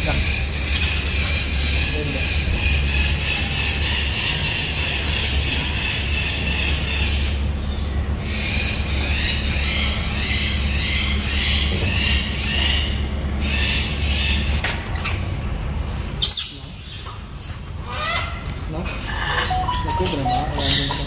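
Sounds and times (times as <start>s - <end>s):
caged birds chirping: 0.0s - 21.0s.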